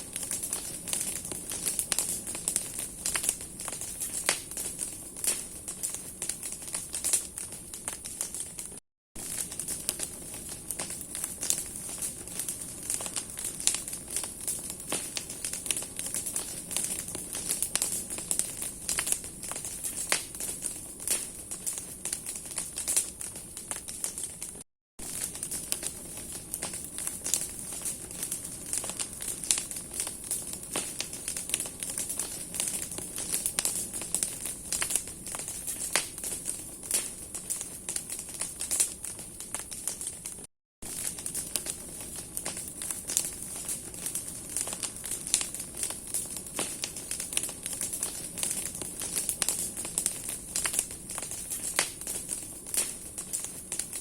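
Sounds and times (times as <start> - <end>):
bonfire crackling and popping: 0.0 - 54.0
hiss of flame: 9.3 - 40.0, 40.9 - 54.0.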